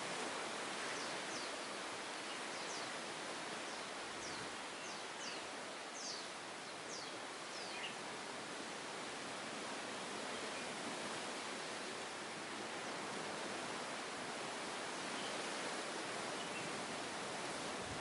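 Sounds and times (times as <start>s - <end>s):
steady rushing outdoor noise: 0.0s - 18.0s.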